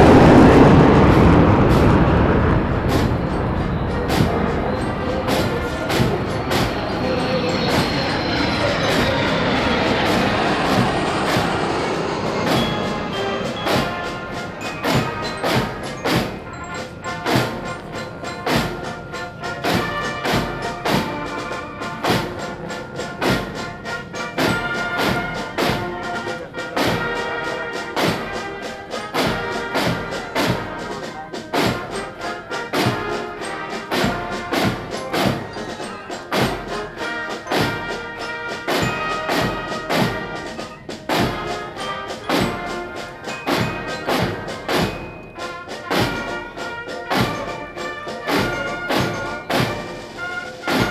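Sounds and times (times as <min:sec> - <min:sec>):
brass band playing a march: 0:00.0 - 0:50.9
rushing noise: 0:00.0 - 0:50.9.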